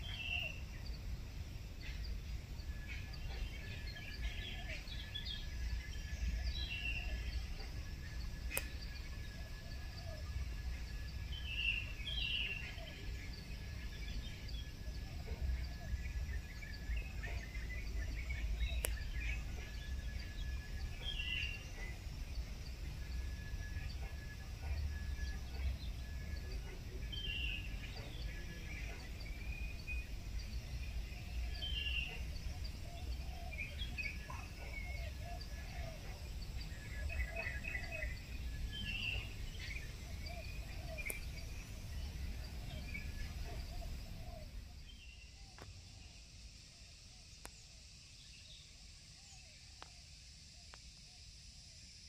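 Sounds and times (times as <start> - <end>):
wild birds chirping and calling: 0.0 - 46.4.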